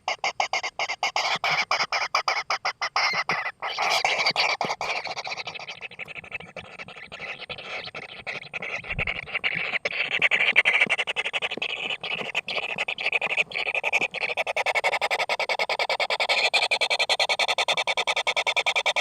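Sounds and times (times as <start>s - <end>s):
nestlings rasping begging calls: 0.0s - 19.0s.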